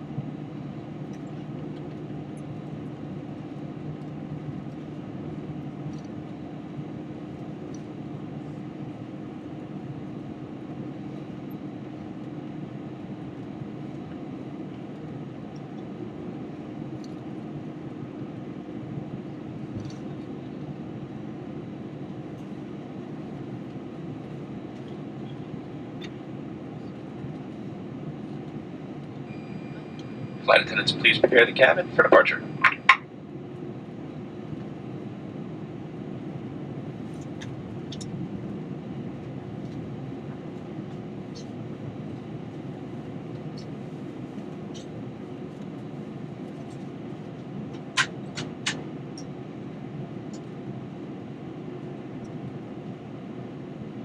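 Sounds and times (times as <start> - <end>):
air conditioning blowing: 0.0 - 54.0
jet engines at low power: 0.0 - 54.0.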